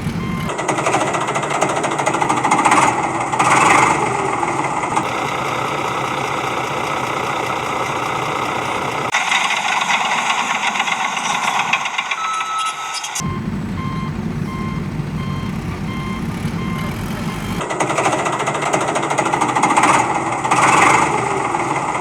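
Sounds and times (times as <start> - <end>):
rattling engine: 0.0 - 12.4, 13.2 - 22.0.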